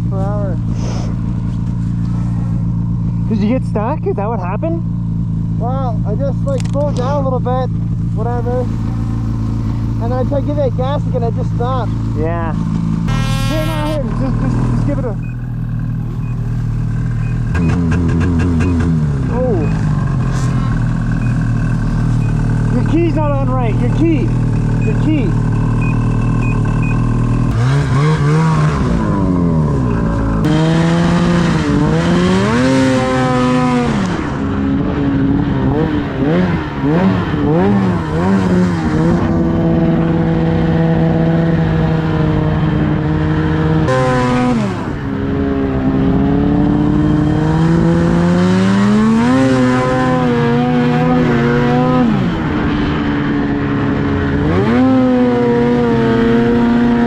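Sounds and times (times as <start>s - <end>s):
snowmobile engine revving: 5.6s - 57.0s.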